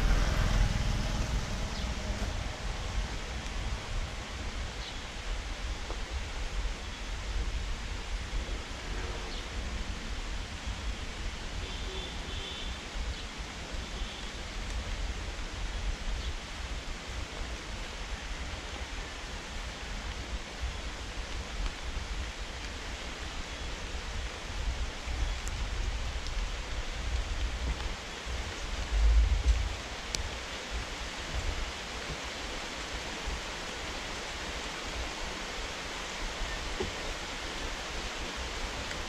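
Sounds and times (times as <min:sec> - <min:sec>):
rain falling: 0:00.0 - 0:39.0
wind rumbling on microphone: 0:00.0 - 0:39.0.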